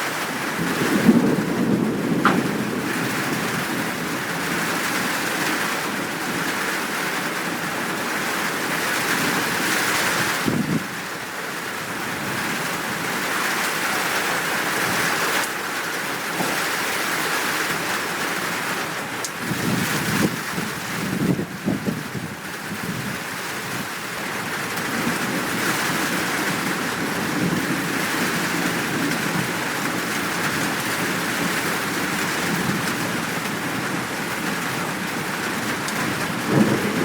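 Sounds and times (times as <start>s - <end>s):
heavy rain falling: 0.0s - 37.0s
thunder rumbling: 0.5s - 15.3s, 19.4s - 37.0s.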